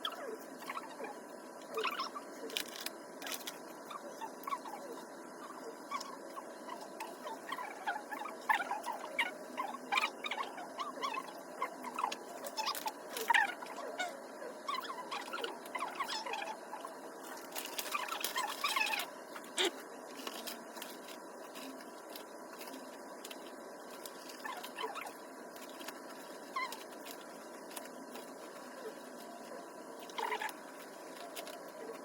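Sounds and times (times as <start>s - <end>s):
ambient background noise: 0.0s - 32.0s.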